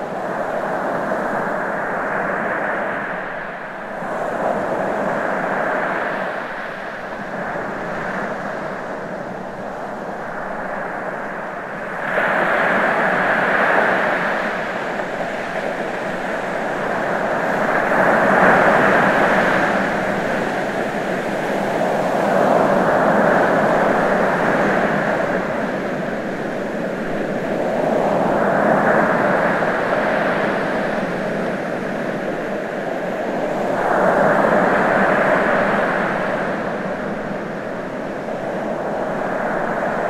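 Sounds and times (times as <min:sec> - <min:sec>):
ocean waves washing onto shore: 0:00.0 - 0:40.0.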